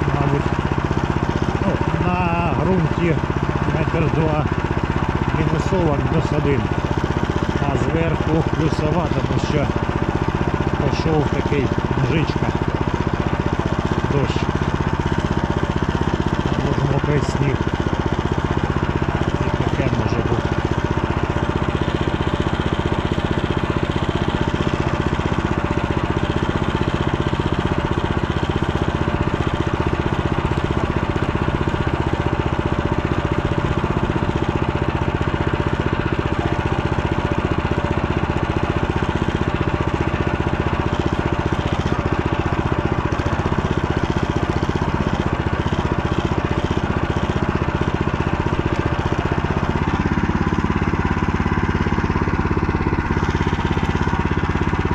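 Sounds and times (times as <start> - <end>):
motorbike engine running steadily: 0.0 - 54.9.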